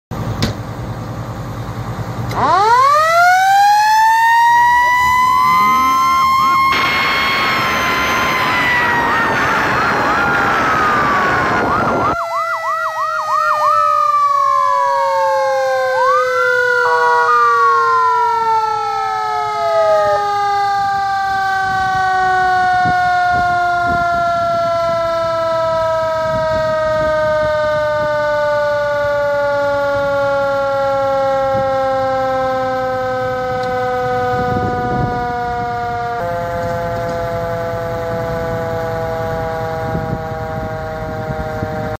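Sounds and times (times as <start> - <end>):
fire truck siren wailing: 0.2 - 41.9
electronic siren wail and yelp: 2.3 - 41.9.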